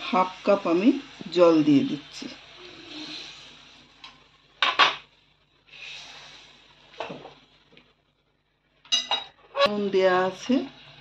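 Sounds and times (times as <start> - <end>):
soft hiss: 0.0 - 9.0.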